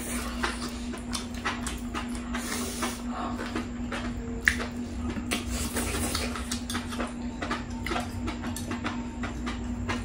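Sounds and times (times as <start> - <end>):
steady low hum: 0.0 - 10.0
wet chewing and mouth smacks: 0.0 - 10.0.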